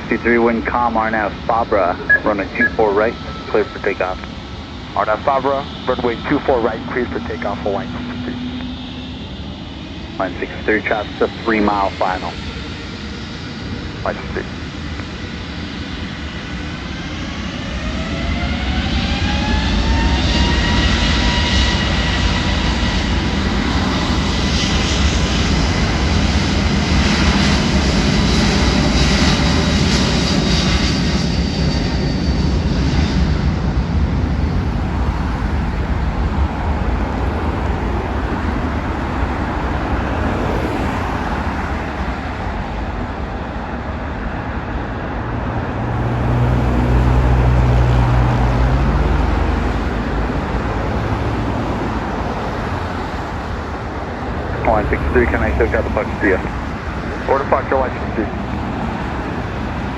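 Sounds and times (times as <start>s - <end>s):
jet engines spooling up: 0.0s - 45.9s, 46.7s - 59.9s
jet engine noise: 0.0s - 59.9s.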